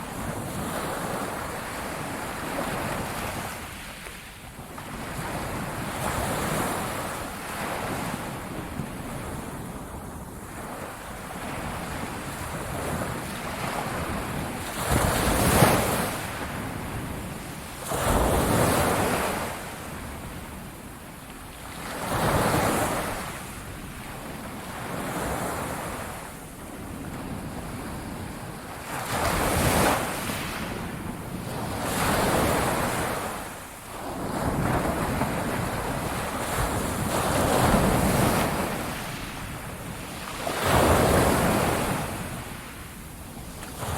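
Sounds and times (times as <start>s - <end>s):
wind: 0.0s - 43.9s.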